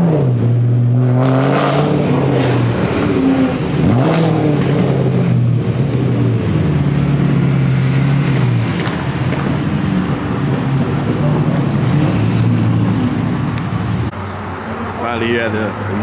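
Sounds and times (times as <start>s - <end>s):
car engine running loudly: 0.0s - 14.2s.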